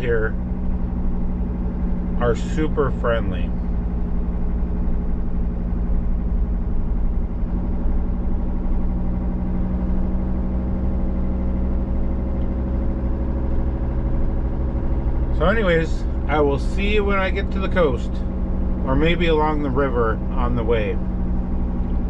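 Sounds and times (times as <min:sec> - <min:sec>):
van engine running: 0:00.0 - 0:22.0.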